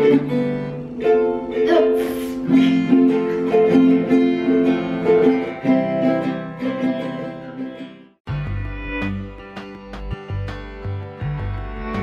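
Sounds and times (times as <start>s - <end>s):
acoustic guitar strumming: 0.0s - 12.0s
ukulele strumming: 0.0s - 12.0s.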